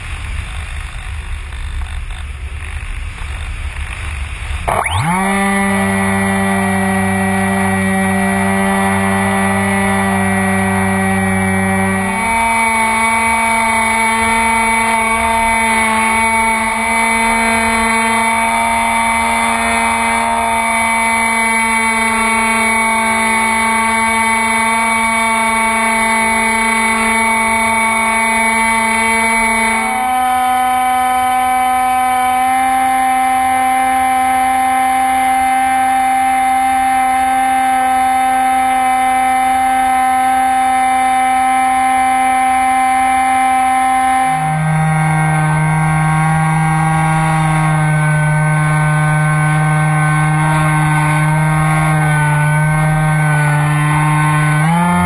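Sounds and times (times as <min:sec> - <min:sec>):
electric motor propeller whine: 0:00.0 - 0:55.0
wind: 0:00.0 - 0:55.0.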